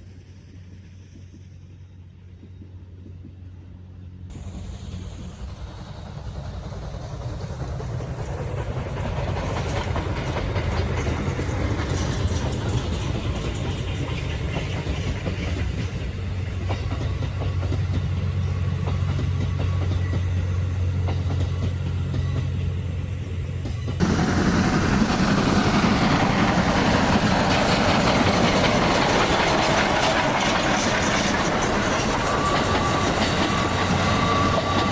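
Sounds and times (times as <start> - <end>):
train rumble: 0.0 - 34.9
train wheels clattering: 4.3 - 34.9.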